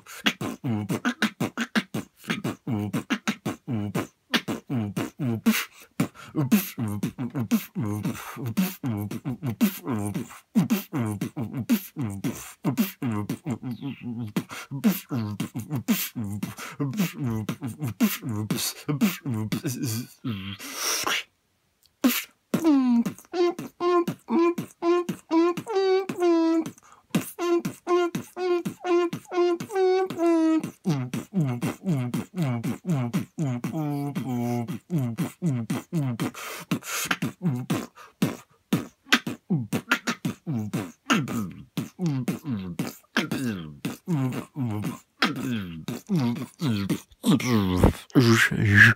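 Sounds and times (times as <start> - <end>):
beatbox: 0.0 - 48.9.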